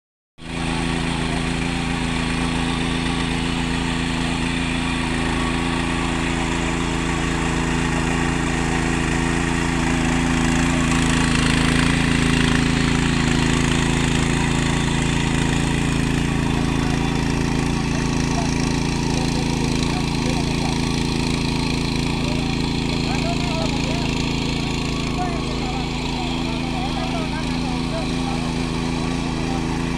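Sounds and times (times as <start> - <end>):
small engine running: 0.4 - 29.9.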